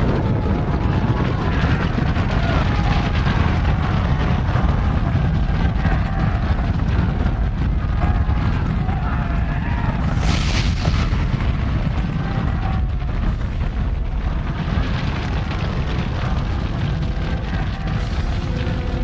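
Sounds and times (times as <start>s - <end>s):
deep roar of explosion and fire: 0.0s - 19.0s.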